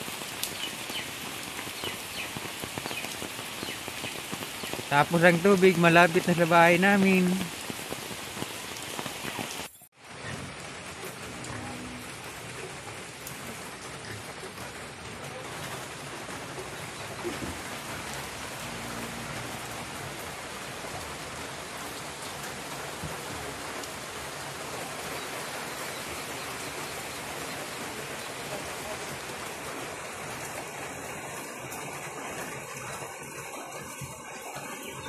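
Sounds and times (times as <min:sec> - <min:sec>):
heavy rain on ground and foliage: 0:00.0 - 0:35.0.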